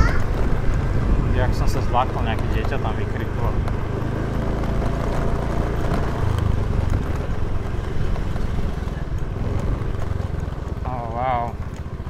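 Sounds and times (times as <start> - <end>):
motorbike engine running: 0.0 - 12.0
wind and road noise: 0.0 - 12.0.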